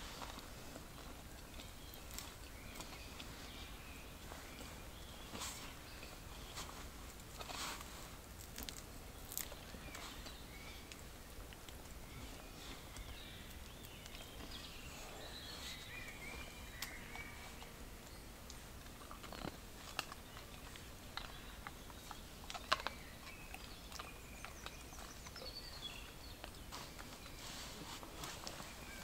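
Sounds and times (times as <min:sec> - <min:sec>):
faint birdsong chirps: 0:00.0 - 0:29.0.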